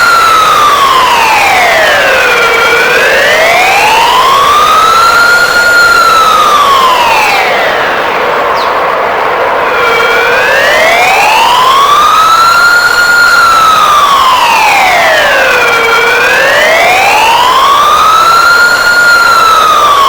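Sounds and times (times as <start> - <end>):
wailing alarm siren: 0.0 - 20.0.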